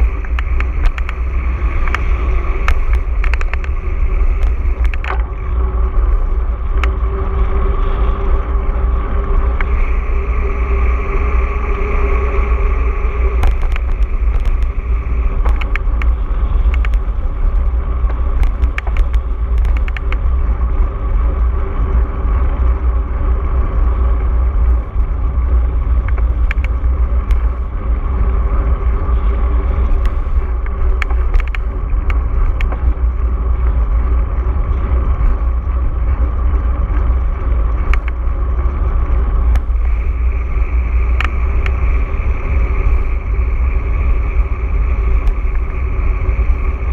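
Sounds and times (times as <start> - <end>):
bike clicks and rattles: 0.0 - 46.9
wind buffeting rumble: 0.0 - 46.9.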